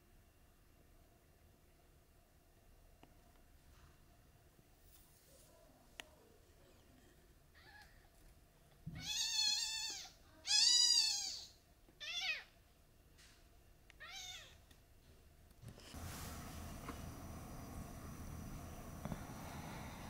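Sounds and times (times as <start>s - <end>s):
soft steady hiss: 0.0s - 20.0s.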